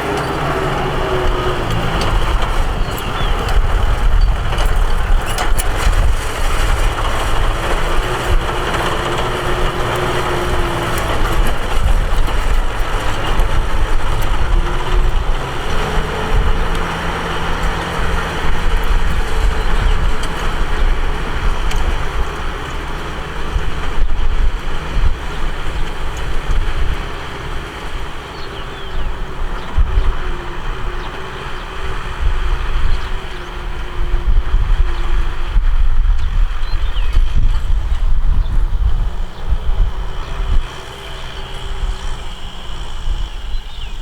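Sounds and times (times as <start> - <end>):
tractor engine under load: 0.0 - 44.0.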